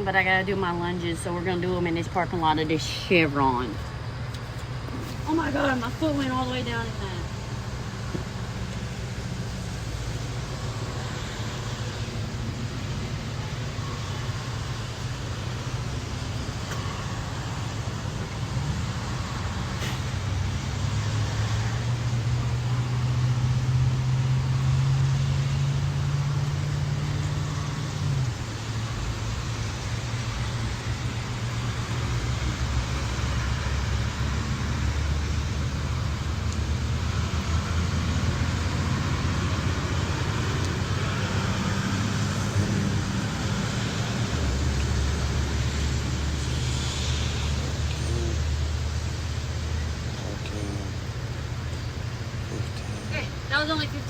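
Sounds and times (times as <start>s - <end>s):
loud engine drone: 0.0s - 54.0s
road traffic: 0.0s - 54.0s
vehicle engines droning: 0.0s - 54.0s.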